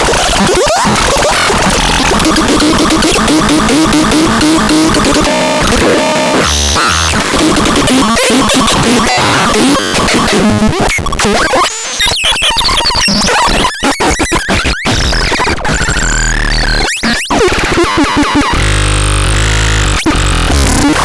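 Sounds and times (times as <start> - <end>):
harsh electronic noise music: 0.0 - 13.6, 14.2 - 21.0.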